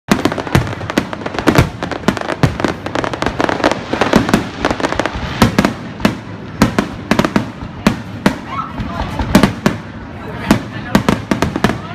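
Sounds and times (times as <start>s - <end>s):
fireworks bangs: 0.1s - 11.9s
fireworks crackling: 0.1s - 11.9s.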